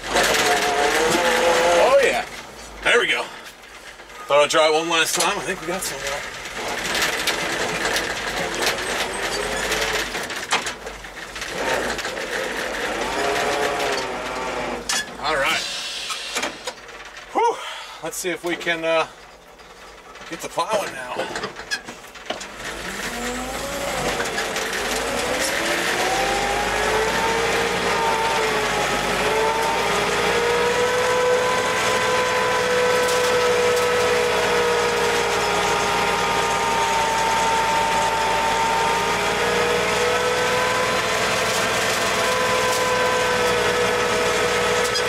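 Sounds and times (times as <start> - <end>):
truck engine revving: 0.0 - 17.5, 18.1 - 45.0.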